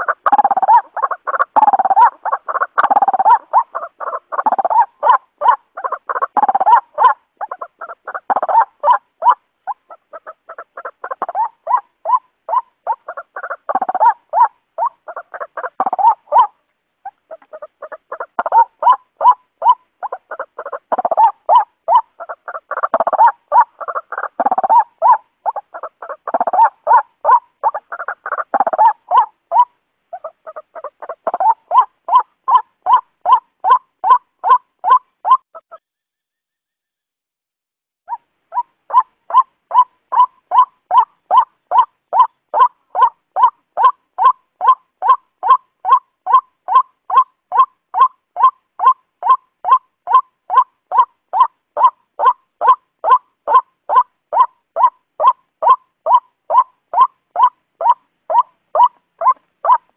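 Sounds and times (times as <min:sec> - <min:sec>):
waterhen calling: 0:00.0 - 0:35.9, 0:38.1 - 0:59.9.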